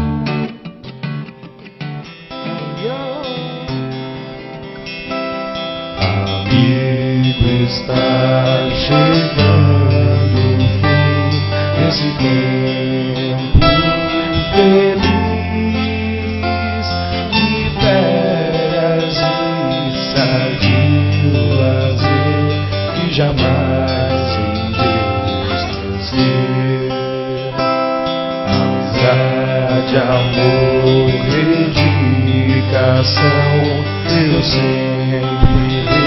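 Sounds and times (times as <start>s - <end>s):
pop music with acoustic guitar: 0.0s - 36.0s
person singing: 2.3s - 4.9s, 5.8s - 36.0s.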